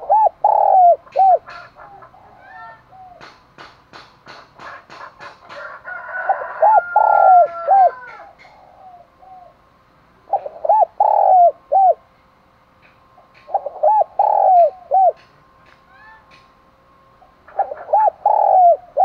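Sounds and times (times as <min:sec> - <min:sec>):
dove cooing: 0:00.0 - 0:03.4, 0:04.6 - 0:12.1, 0:13.4 - 0:16.4, 0:17.2 - 0:19.0.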